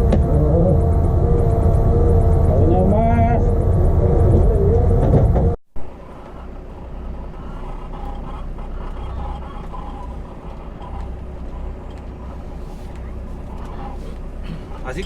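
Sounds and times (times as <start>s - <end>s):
diesel truck rumbling: 0.0s - 15.0s.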